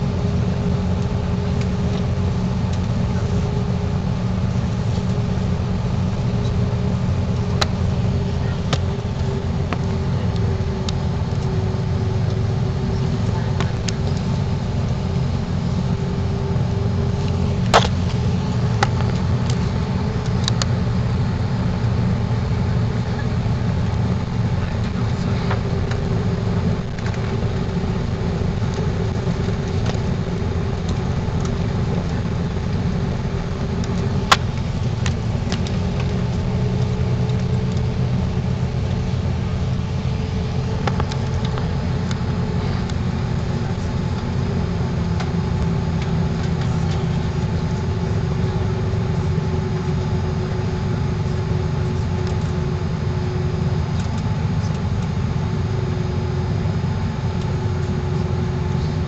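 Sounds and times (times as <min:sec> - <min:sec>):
jet engine rumble inside cabin: 0:00.0 - 0:59.0.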